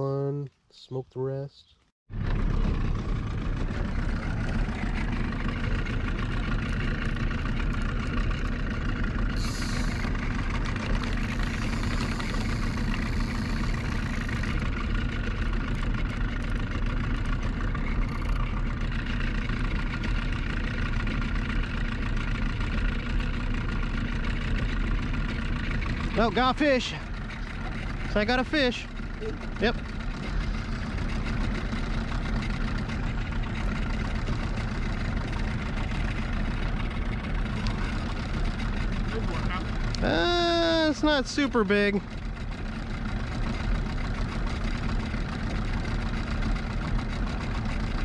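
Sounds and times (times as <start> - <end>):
outboard motor running: 2.1 - 48.0.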